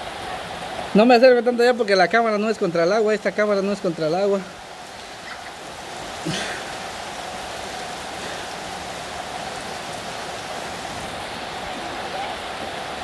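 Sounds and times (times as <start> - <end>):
rain pattering on ground: 0.0 - 13.0.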